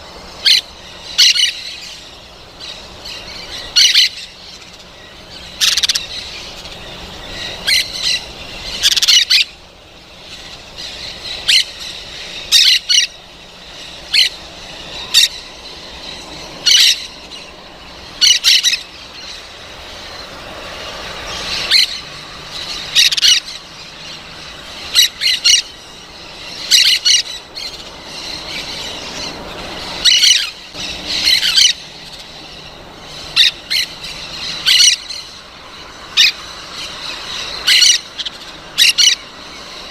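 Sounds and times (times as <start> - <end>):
parrot squawking: 0.4 - 9.6, 10.2 - 20.0, 21.2 - 39.8.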